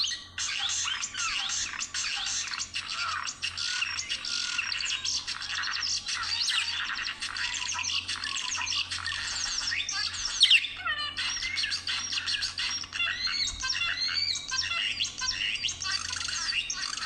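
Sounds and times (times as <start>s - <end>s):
budgerigars warbling and chattering: 0.0s - 17.0s
sharp bird call: 0.0s - 17.0s.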